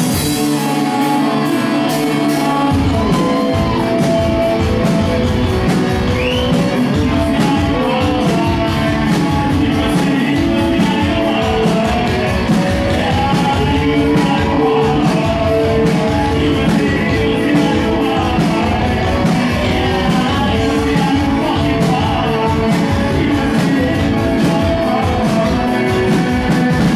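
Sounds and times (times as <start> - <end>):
drums: 0.0 - 26.9
electric guitar: 0.0 - 26.9
person singing: 0.0 - 26.9.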